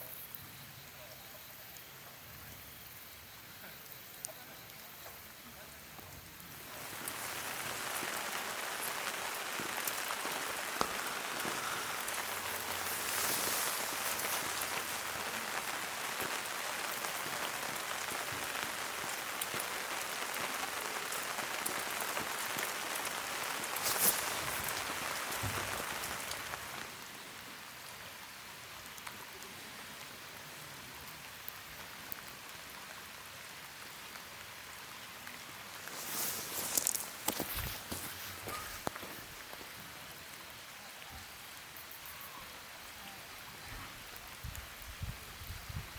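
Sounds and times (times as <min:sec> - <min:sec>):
rain falling: 0:00.0 - 0:45.9
raindrops ticking on surfaces: 0:00.0 - 0:45.9.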